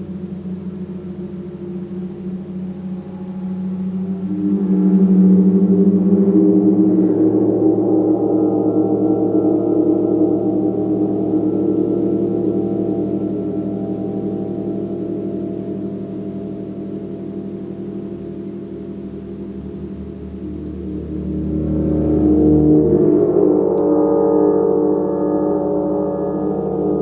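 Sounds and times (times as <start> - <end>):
large gong ringing: 0.0 - 27.0.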